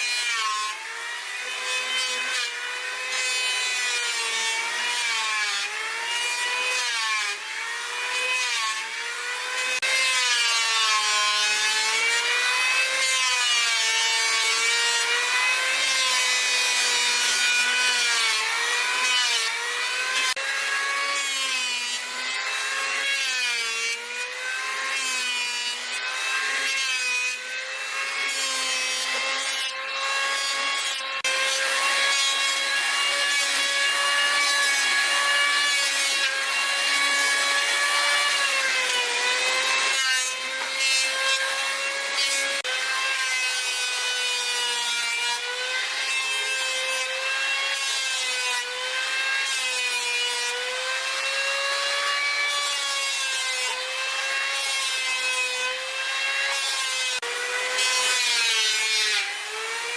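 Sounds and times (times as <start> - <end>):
power saw cutting wood: 0.0 - 59.9.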